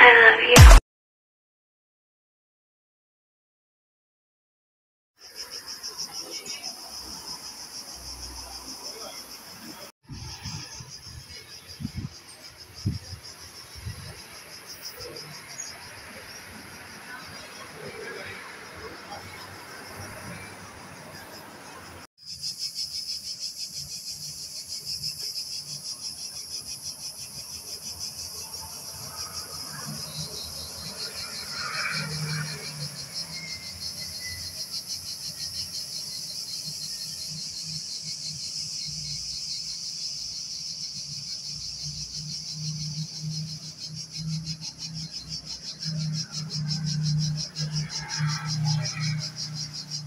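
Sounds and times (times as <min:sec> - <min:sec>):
insects chirring: 0:05.2 - 0:50.0.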